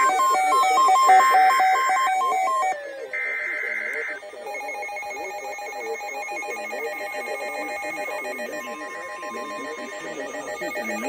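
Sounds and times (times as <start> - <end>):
weather radio alert beeps: 0.0 - 11.0.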